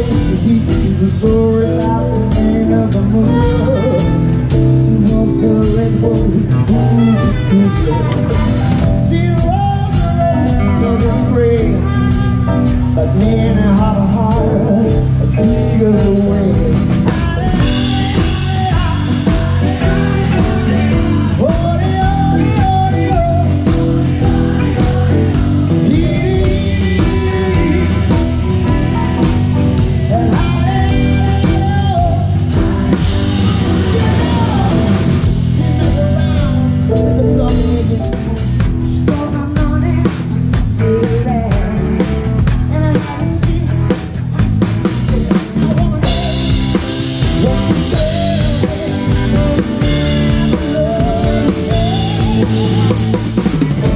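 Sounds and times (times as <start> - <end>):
drum kit with cymbals: 0.0 - 53.9
electric guitar: 0.0 - 53.9
live band playing: 0.0 - 53.9
person singing: 0.0 - 53.9.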